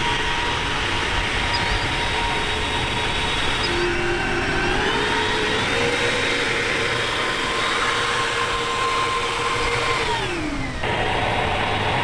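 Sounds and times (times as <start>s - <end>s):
model jet engine whine: 0.0s - 12.0s
rushing exhaust noise: 0.0s - 12.0s.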